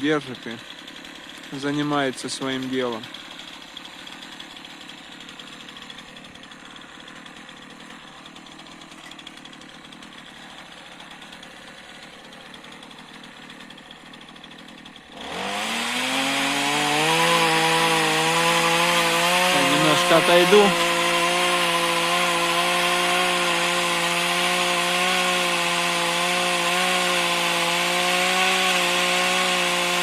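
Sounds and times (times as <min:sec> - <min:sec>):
chainsaw cutting branch: 0:00.0 - 0:30.0
chainsaw engine: 0:00.0 - 0:30.0.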